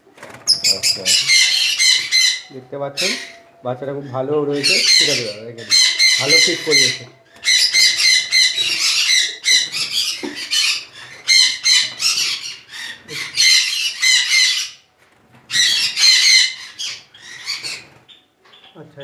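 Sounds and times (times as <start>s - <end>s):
parrots squawking: 0.4s - 14.9s, 15.5s - 18.8s.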